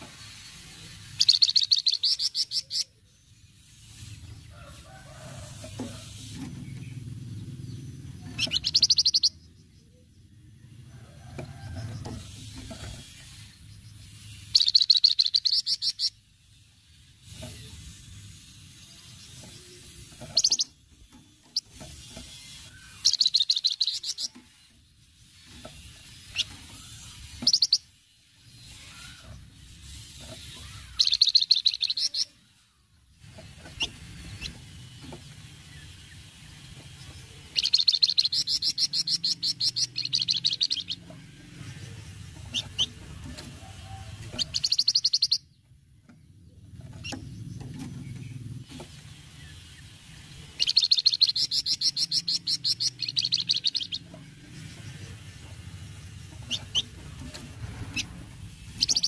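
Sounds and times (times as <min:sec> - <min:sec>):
bird chattering rattle: 0:00.1 - 0:07.0, 0:08.2 - 0:09.4, 0:11.6 - 0:32.6, 0:33.2 - 0:45.6, 0:46.7 - 0:59.0.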